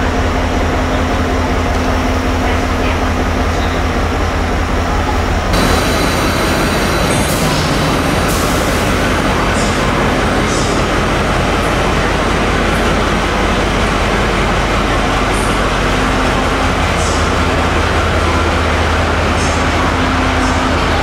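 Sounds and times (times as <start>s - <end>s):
train engine running: 0.0s - 21.0s.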